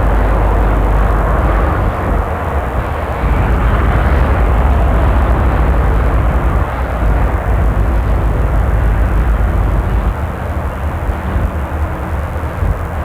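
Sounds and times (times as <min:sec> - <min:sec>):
lorry diesel engine drone: 0:00.0 - 0:13.0.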